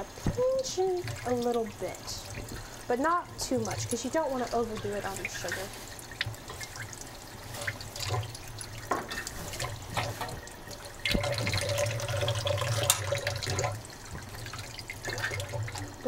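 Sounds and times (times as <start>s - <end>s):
tap water running into sink: 0.0s - 16.0s.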